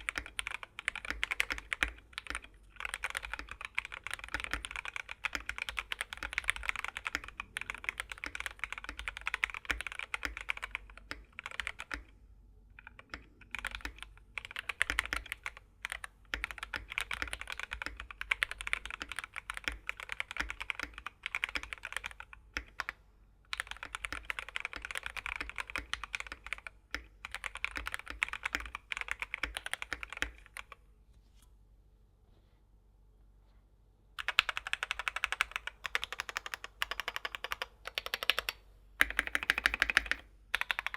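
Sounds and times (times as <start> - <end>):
mechanical keyboard typing: 0.0 - 30.8, 34.2 - 40.9.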